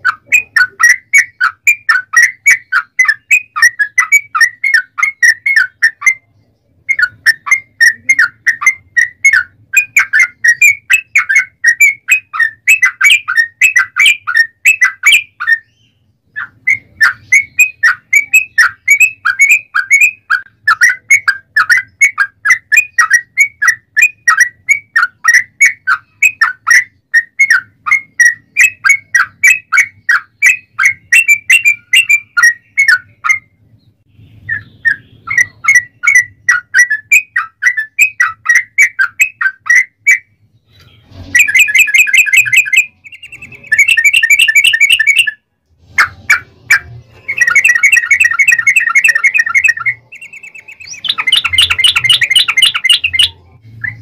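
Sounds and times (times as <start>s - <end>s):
bird singing chattering notes: 0.0s - 45.4s, 46.0s - 54.0s.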